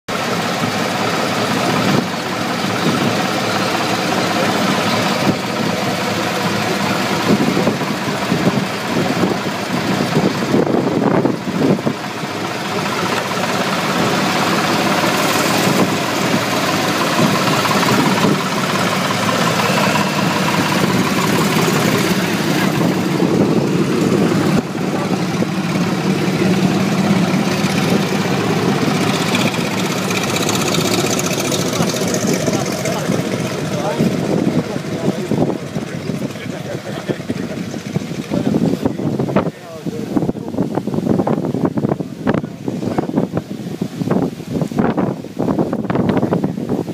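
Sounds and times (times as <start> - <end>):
car engine idling: 0.1 - 46.9.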